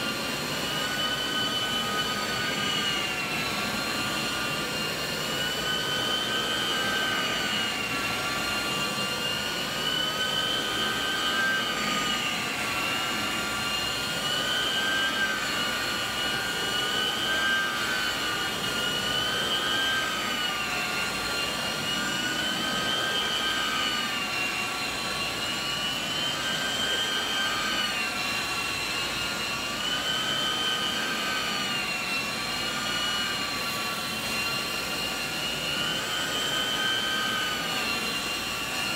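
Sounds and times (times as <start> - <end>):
carpet extraction suction whine: 0.0 - 38.9.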